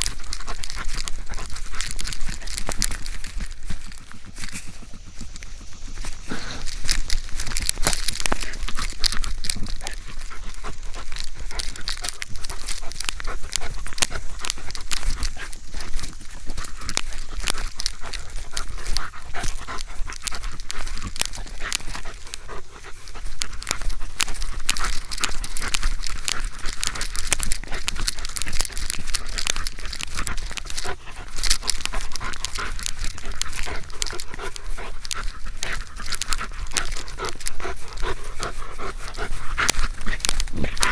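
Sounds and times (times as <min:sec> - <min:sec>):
crackling and rustling on microphone: 0:00.0 - 0:40.9
dog panting: 0:00.0 - 0:40.9.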